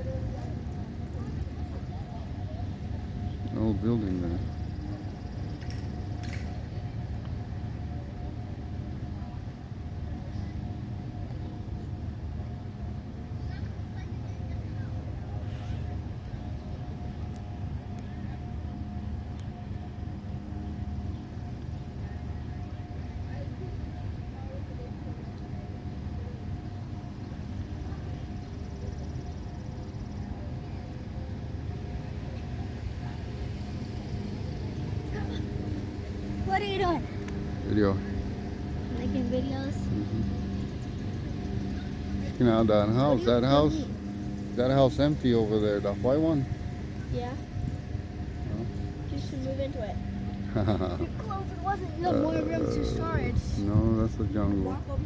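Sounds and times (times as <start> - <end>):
faint steady hum: 0.0 - 55.0
steady low rumble: 0.0 - 55.0.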